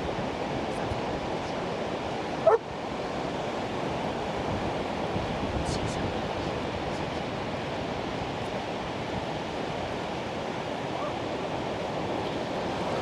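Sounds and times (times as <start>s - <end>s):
surf breaking on beach: 0.0s - 13.0s.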